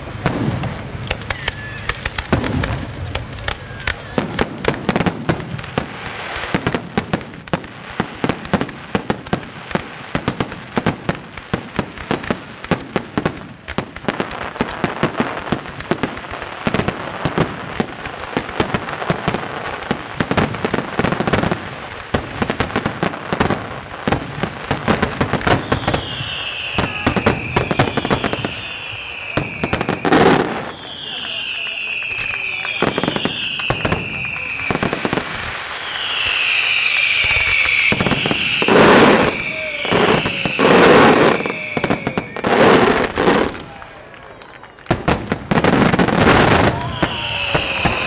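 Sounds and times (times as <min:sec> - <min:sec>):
falling firework whistles: 0:00.0 - 0:48.0
firework bangs: 0:00.0 - 0:48.0
firework crackle: 0:00.0 - 0:48.0.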